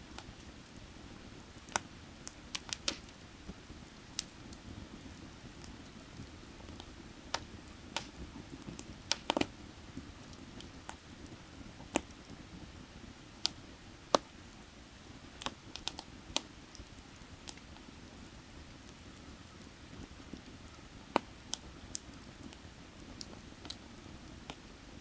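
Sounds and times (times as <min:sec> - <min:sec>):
firewood crackling and popping: 0:00.0 - 0:25.0.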